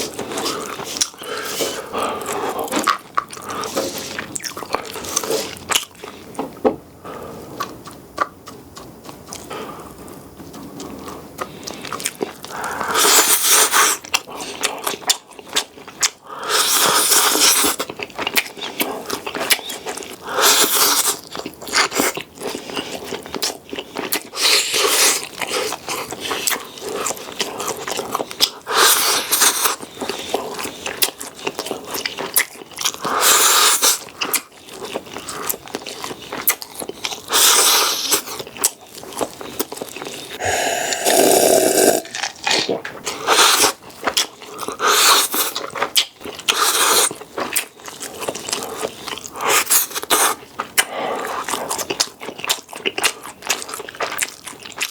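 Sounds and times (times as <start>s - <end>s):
person chewing and biting: 10.8s - 54.9s.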